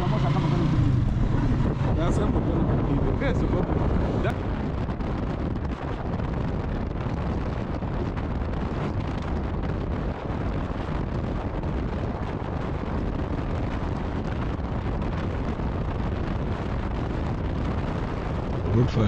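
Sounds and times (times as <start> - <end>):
motorcycle engine running: 0.0 - 18.8
wind buffeting microphone: 0.0 - 19.0.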